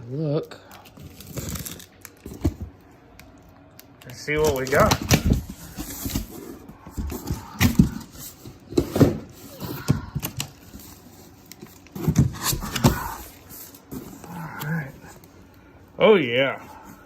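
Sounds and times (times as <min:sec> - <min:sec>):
packaging rustling: 0:00.7 - 0:15.4.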